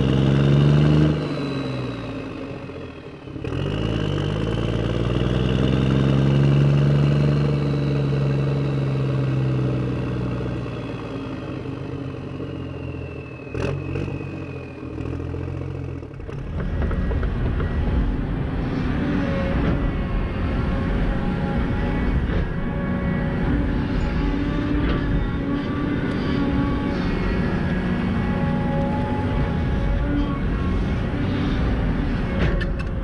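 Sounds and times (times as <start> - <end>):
simulated truck engine revving: 0.0 - 33.0.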